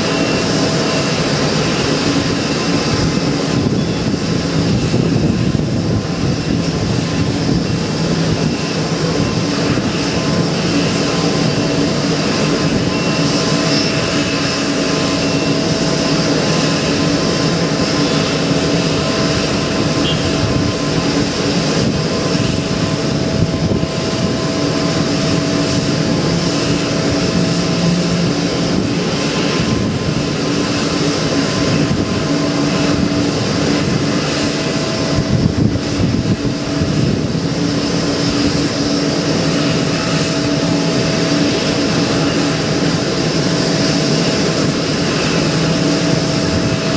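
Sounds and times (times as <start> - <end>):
jet engine hiss and whine: 0.0 - 46.9.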